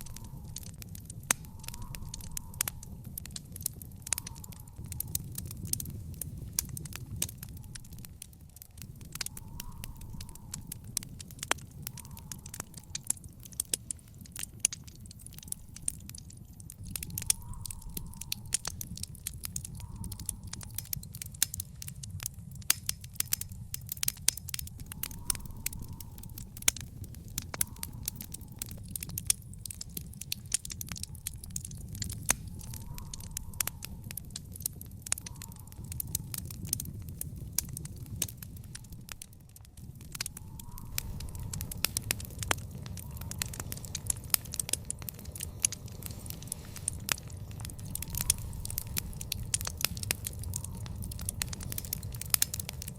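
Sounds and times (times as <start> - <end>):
low rumble of burning fire: 0.0 - 52.9
wood fire crackling and popping: 0.0 - 52.9.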